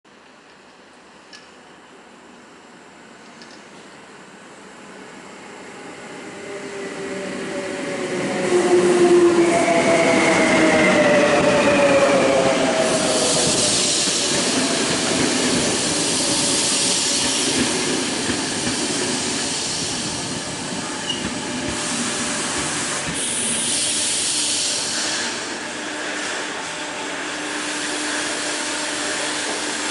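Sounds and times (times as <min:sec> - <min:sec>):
locomotive whine: 0:04.3 - 0:29.9
train wheels and brakes rushing: 0:05.4 - 0:29.9.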